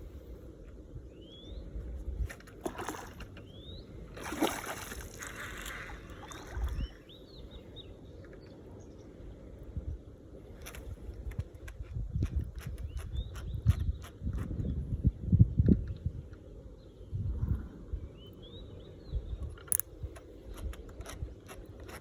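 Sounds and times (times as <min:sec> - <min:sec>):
steady low rumble: 0:00.0 - 0:02.6, 0:04.9 - 0:21.4
birds chirping: 0:00.5 - 0:01.9, 0:03.3 - 0:22.0.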